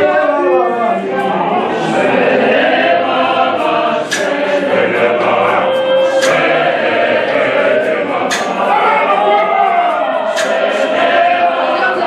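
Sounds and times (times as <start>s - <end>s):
choir singing a hymn: 0.0s - 12.0s.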